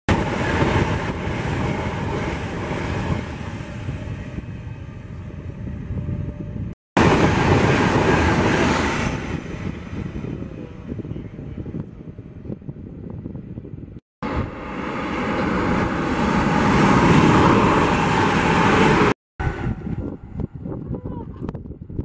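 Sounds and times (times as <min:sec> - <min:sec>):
high-speed train rushing past: 0:00.1 - 0:20.8.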